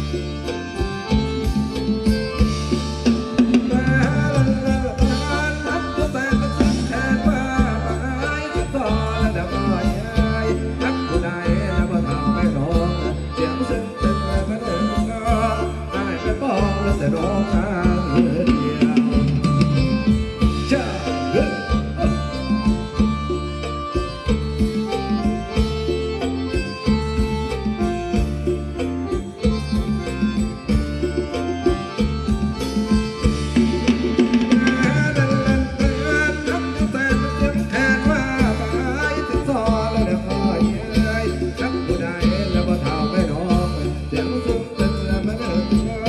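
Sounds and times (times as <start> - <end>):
live band playing dance music: 0.0 - 46.0.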